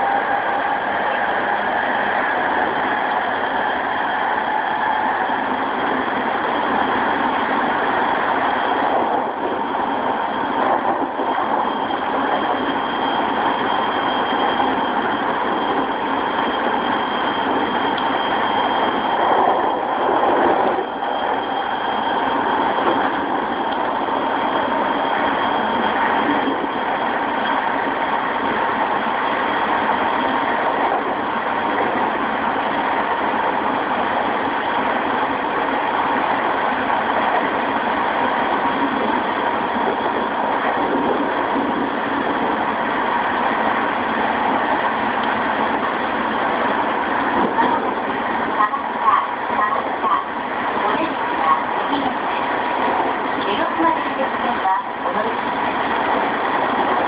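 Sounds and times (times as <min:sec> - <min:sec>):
wheel and rail rumble: 0:00.0 - 0:57.0.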